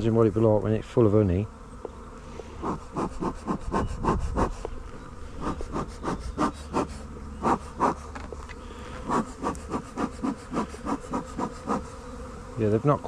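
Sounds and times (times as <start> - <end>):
bees passing close: 0.0 - 13.0
honeybees buzzing: 0.0 - 13.0.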